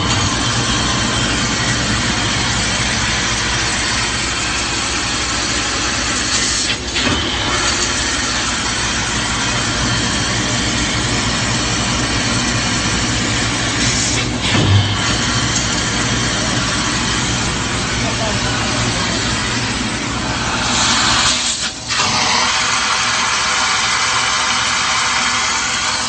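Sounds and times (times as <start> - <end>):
laser cutting machine hissing: 0.0 - 26.0
machine whines: 0.0 - 26.0.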